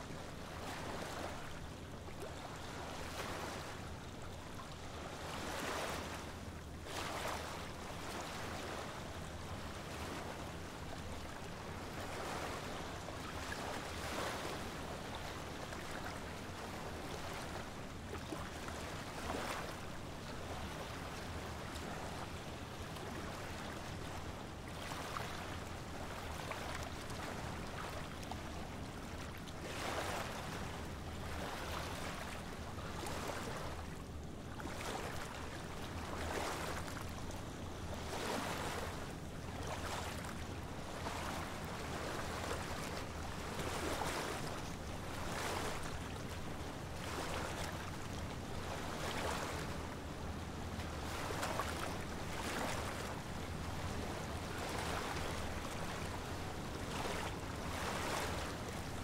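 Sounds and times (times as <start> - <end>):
small waves washing onto beach: 0.0 - 59.0.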